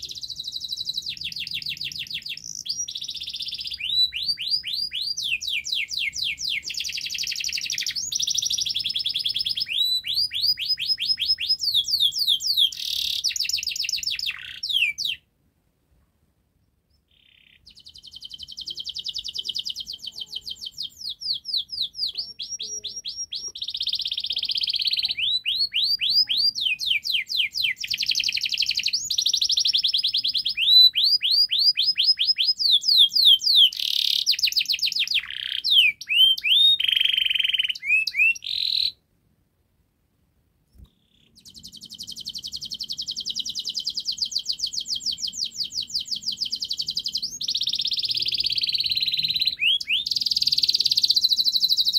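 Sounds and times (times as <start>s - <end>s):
canary singing: 0.0s - 15.2s, 16.6s - 39.0s, 40.8s - 51.9s.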